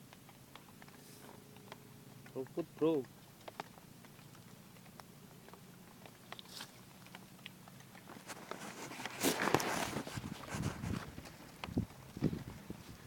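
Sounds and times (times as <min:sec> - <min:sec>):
grass rustling and crunching: 0:00.0 - 0:13.0.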